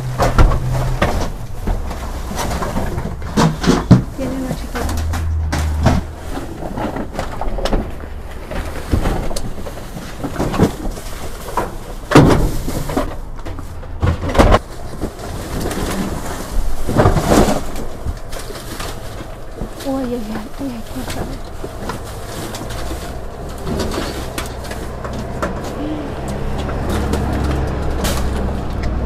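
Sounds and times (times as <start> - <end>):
low hum: 0.0 - 11.9, 12.9 - 29.0
items rustling and scraping in dumpster: 0.0 - 29.0.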